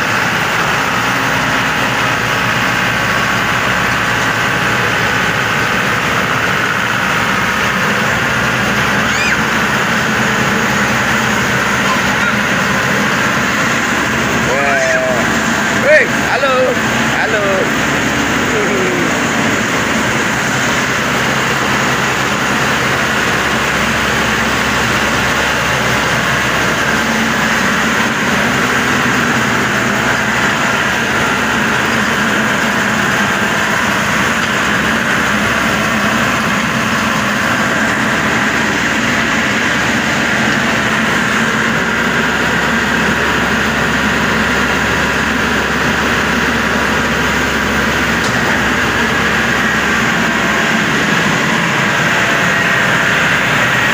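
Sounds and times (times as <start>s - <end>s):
combine harvester engine idling: 0.0s - 53.9s.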